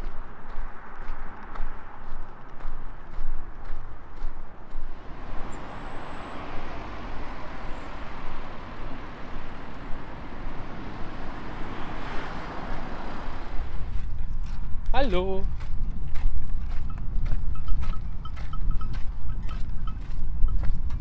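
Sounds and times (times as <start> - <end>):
vehicle passing on road: 0.0 - 21.0.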